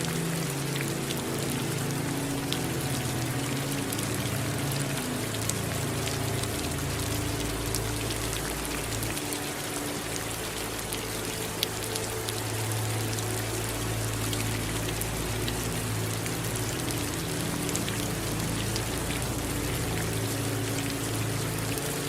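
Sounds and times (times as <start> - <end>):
raindrops ticking: 0.0 - 22.0
steady rain falling: 0.0 - 22.0.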